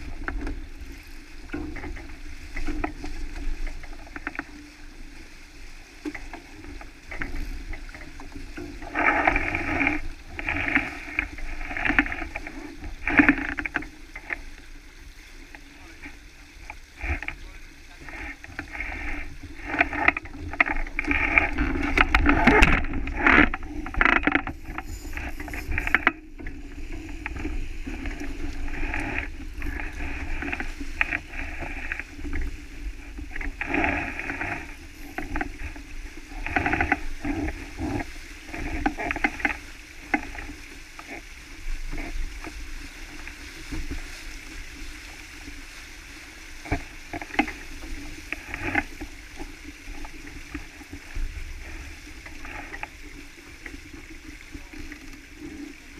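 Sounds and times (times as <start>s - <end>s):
water rushing along hull: 0.0s - 55.9s.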